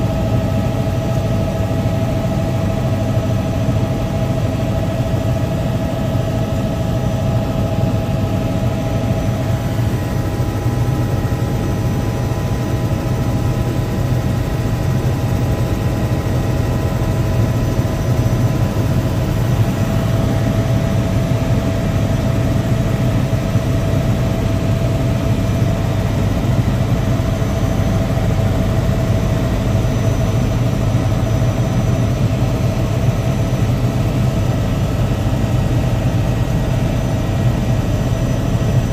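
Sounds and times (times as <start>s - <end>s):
helicopter cabin drone: 0.0s - 38.9s.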